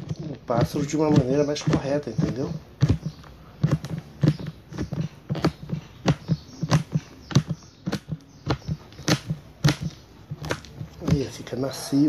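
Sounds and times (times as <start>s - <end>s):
knife chopping nuts on a board: 0.0s - 11.6s.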